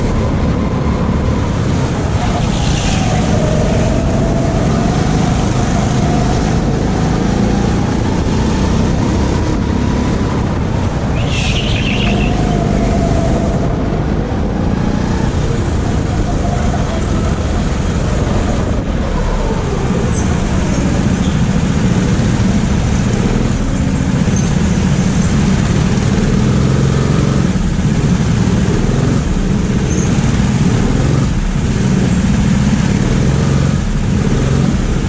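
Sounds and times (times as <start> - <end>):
go-kart engine at low revs: 0.0 - 35.0.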